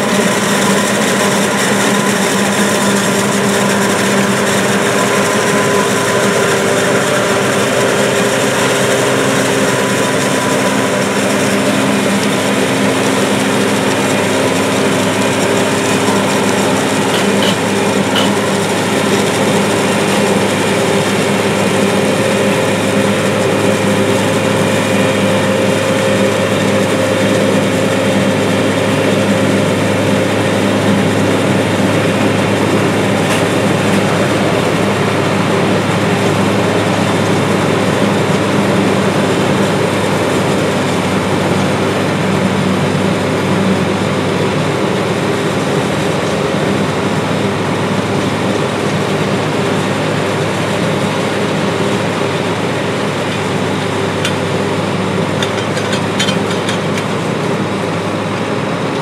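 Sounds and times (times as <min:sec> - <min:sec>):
forage harvester engine droning: 0:00.0 - 0:59.0.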